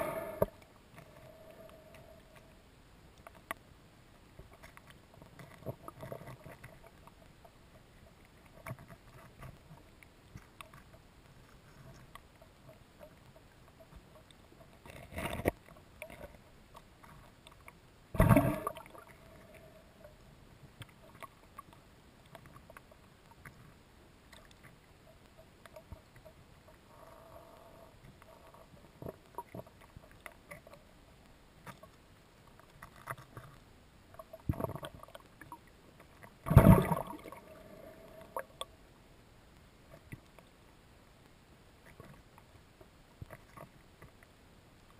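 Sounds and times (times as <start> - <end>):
faint underwater clicks and crackles: 0.0 - 44.9.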